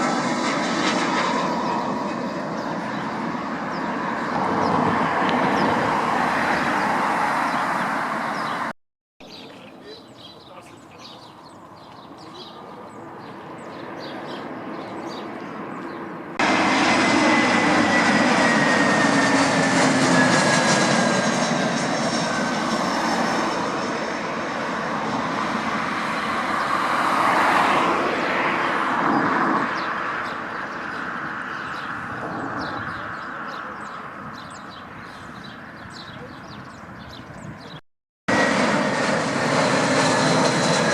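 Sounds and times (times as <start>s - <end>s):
small aircraft engines passing: 0.0s - 40.9s.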